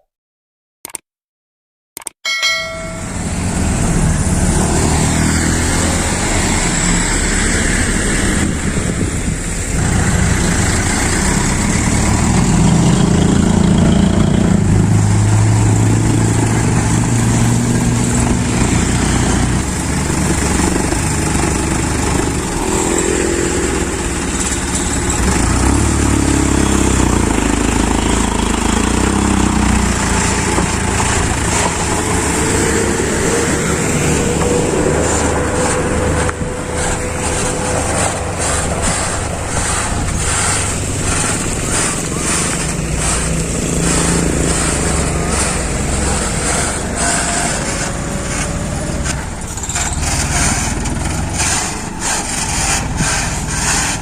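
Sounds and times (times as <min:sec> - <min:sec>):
diesel truck engine running: 0:02.8 - 0:54.0.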